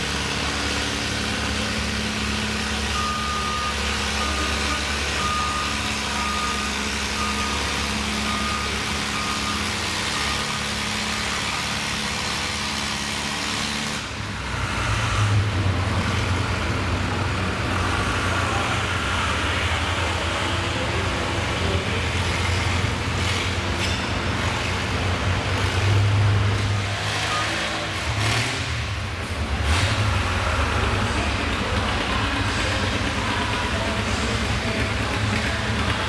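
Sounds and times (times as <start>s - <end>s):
tractor engine under load: 0.0s - 36.0s.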